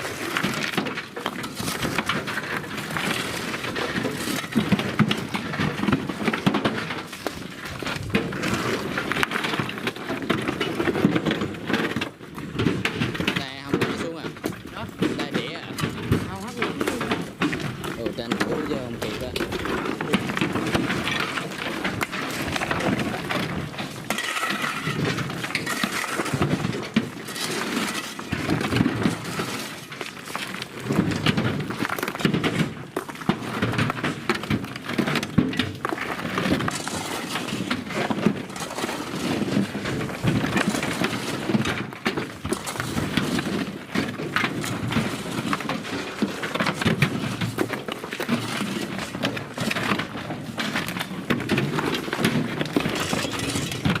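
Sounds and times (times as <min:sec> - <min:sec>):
rocks clattering against metal: 0:00.0 - 0:54.0.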